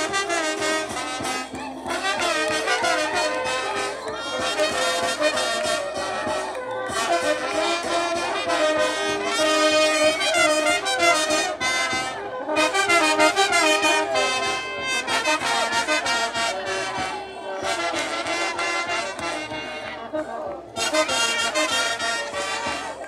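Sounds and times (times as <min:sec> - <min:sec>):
steady drum beat: 0:00.0 - 0:19.8
trumpets and trombones melody: 0:00.0 - 0:23.0.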